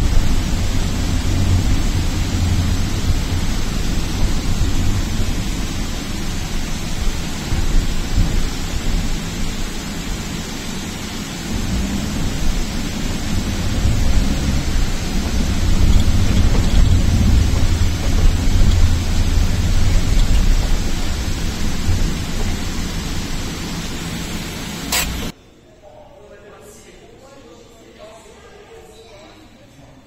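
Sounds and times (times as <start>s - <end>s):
road and engine rumble in van: 0.0s - 25.3s.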